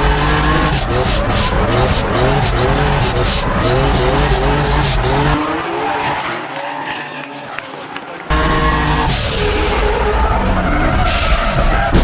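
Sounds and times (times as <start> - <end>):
car engine revving: 0.0 - 12.0
tyres squealing and skidding: 0.0 - 12.0.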